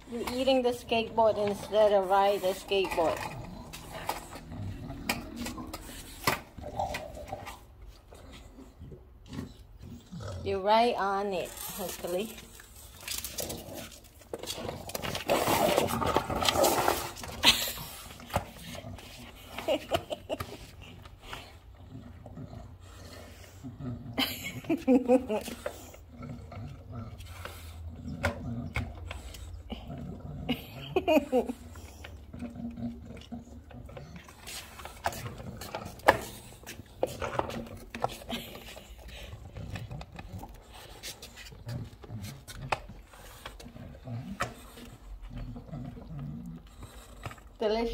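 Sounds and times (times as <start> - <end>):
dog chewing skateboard: 0.0 - 10.3, 11.1 - 30.7, 31.4 - 47.9.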